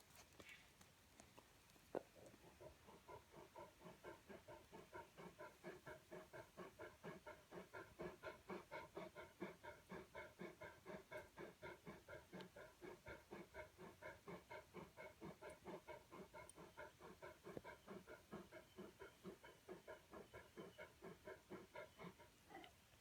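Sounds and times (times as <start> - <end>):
dog panting heavily: 2.2 - 22.6.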